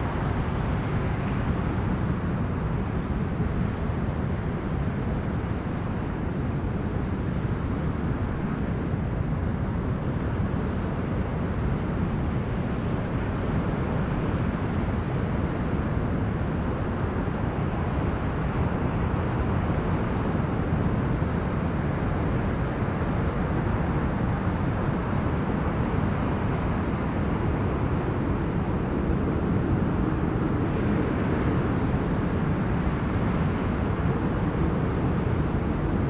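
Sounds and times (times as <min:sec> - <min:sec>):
strong storm wind: 0:00.0 - 0:36.0.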